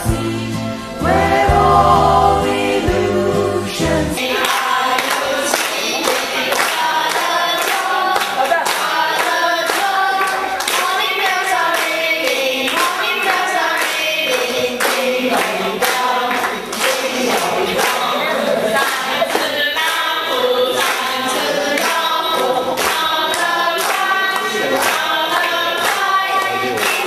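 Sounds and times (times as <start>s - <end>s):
group singing in unison: 0.0s - 27.0s
hand-clapping: 4.3s - 27.0s.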